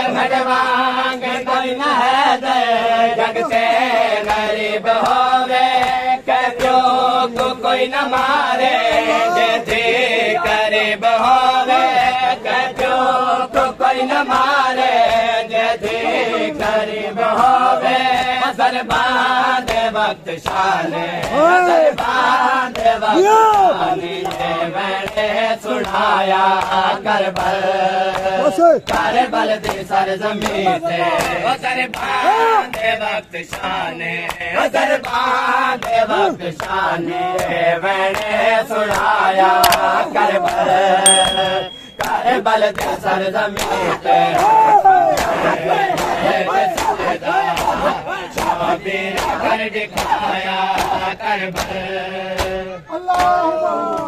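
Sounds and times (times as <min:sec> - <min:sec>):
men chanting a lament: 0:00.0 - 0:41.0, 0:42.0 - 0:54.0.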